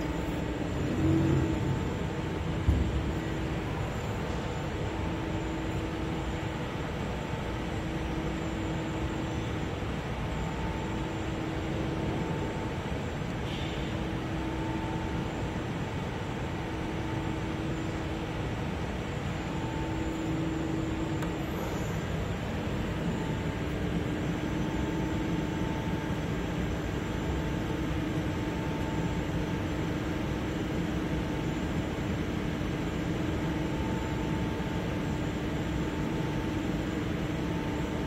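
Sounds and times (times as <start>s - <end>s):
low machine tone: 0.0s - 38.0s.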